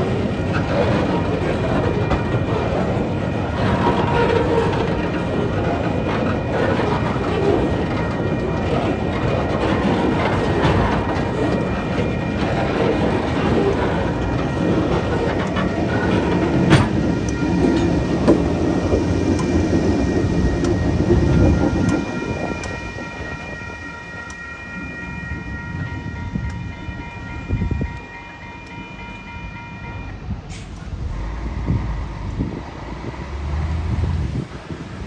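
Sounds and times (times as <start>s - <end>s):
distant train rumble: 0.0s - 35.0s
train wheels rumbling and clattering: 0.0s - 35.0s.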